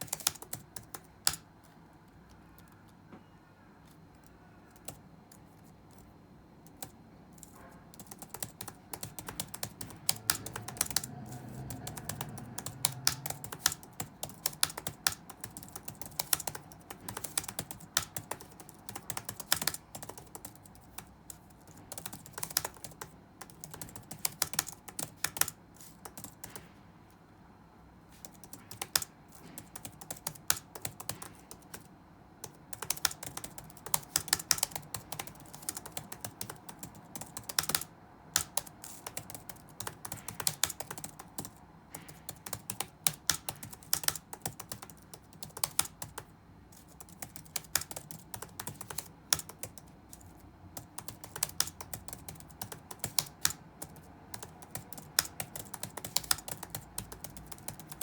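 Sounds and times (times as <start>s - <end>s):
keyboard typing clicks: 0.0s - 1.5s, 6.6s - 26.7s, 28.2s - 58.0s.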